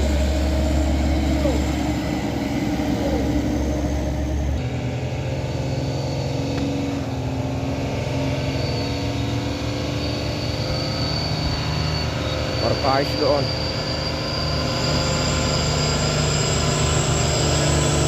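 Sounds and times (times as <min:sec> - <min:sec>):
faint high whine: 0:00.0 - 0:18.0
heavy vehicle engine running: 0:00.0 - 0:18.0.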